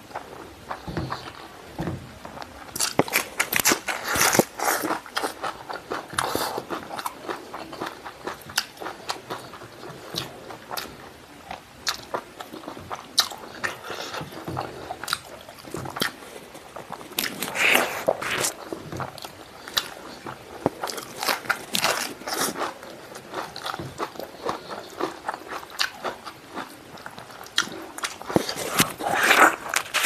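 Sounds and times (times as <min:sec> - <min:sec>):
wet chewing mouth sounds: 0:00.0 - 0:30.0.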